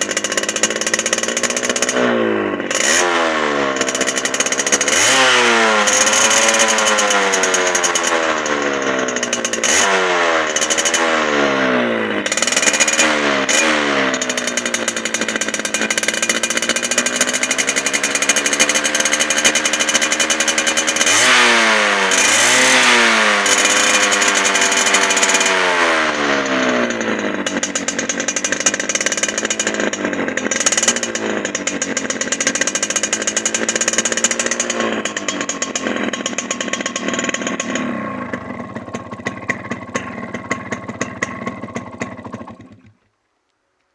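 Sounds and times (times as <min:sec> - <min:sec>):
two-stroke motorcycle engine revving: 0:00.0 - 0:43.1.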